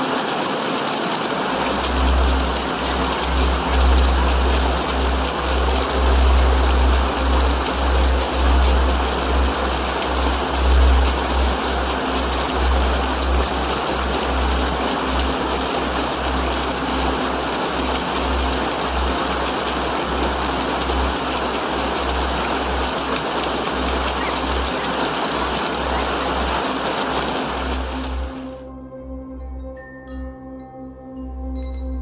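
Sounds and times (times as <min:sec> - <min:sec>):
running water: 0:00.0 - 0:28.6.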